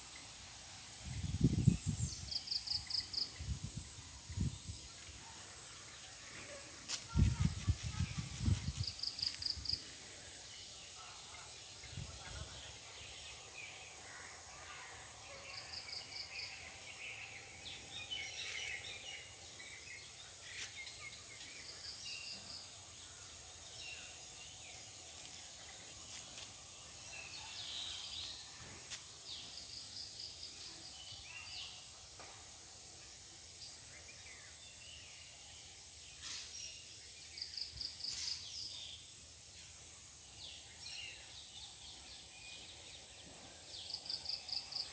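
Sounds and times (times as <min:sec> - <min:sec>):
steady high-pitched hiss: 0:00.0 - 0:44.9.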